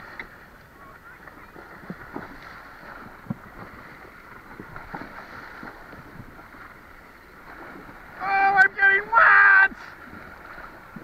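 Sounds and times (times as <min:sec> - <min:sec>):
water splashing around horses: 0:00.0 - 0:11.0.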